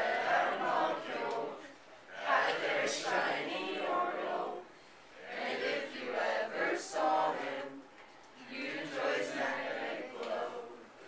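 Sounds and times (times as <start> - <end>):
group singing in unison: 0.0 - 11.0.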